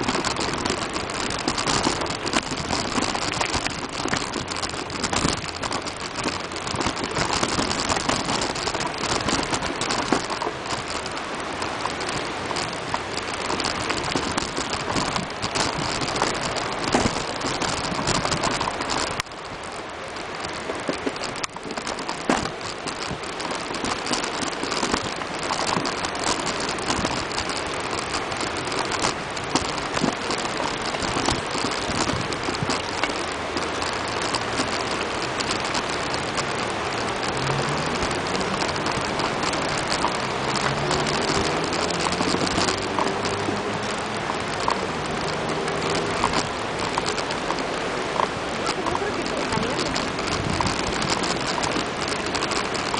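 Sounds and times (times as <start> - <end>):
bicycle frame rattling: 0.0 - 52.9
bicycle rolling over dirt path: 0.0 - 52.9
river rushing: 0.0 - 52.9.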